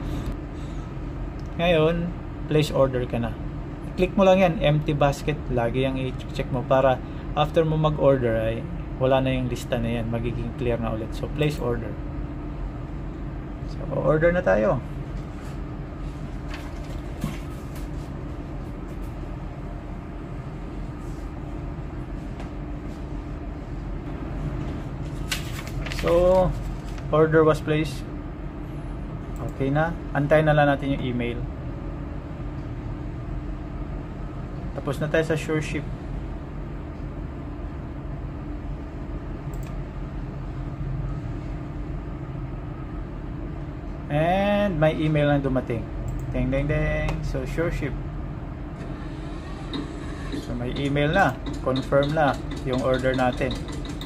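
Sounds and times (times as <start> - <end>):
machinery rumble and hum: 0.0 - 54.0.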